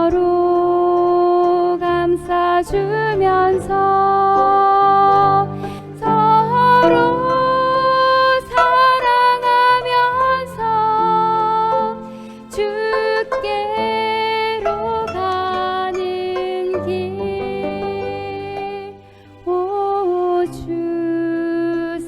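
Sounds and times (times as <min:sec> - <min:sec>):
instrumental accompaniment: 0:00.0 - 0:20.7
plucked zither melody: 0:00.0 - 0:22.0.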